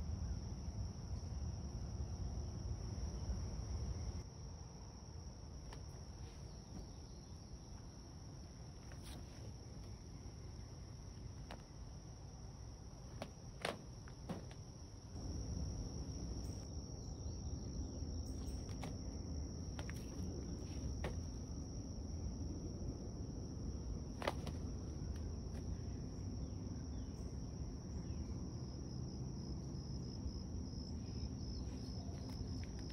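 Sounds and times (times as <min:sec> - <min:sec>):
insects droning: 0:00.0 - 0:32.9.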